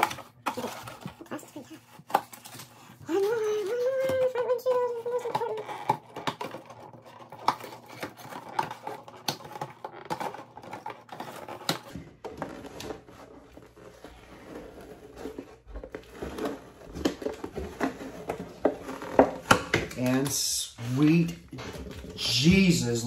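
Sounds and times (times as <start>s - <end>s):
packaging crinkling: 0.0s - 20.3s.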